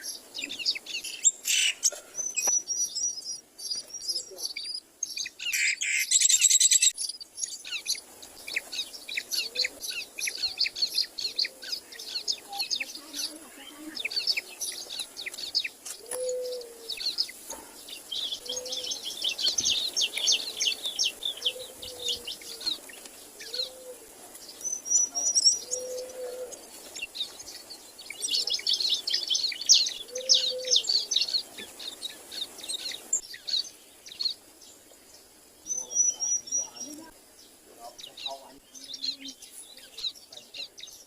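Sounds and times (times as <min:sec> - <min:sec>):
low bird call: 0:00.0 - 0:24.1, 0:24.7 - 0:34.3
birds chirping rapidly: 0:00.0 - 0:41.0.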